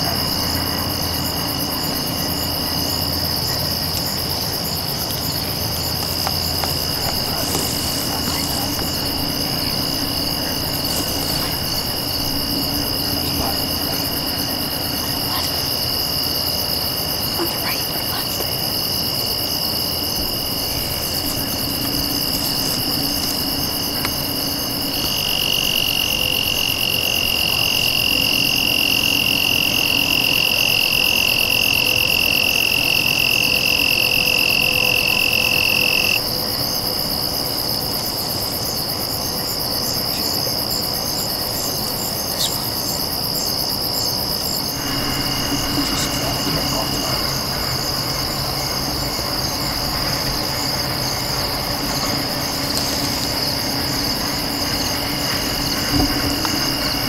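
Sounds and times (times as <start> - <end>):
crickets and insects trilling: 0.0 - 57.0
nearby insect trill: 0.0 - 57.0.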